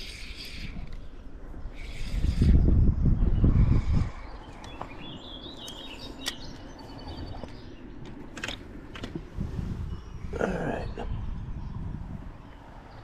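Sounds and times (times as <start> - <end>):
birds chirping: 0.0 - 13.0
steady outdoor background: 0.0 - 13.0.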